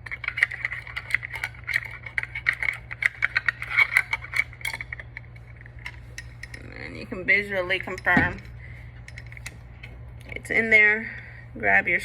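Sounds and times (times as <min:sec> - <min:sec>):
metal parts clicking and rattling: 0:00.0 - 0:10.6.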